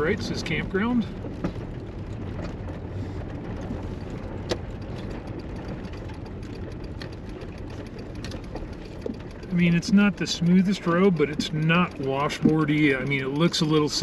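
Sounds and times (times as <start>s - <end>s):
engine and road rumble: 0.0s - 14.0s
knocks and rattles from bumps: 0.0s - 14.0s.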